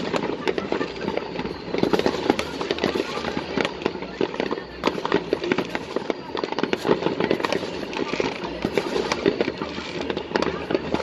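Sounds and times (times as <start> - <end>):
fireworks cracking: 0.0 - 11.0.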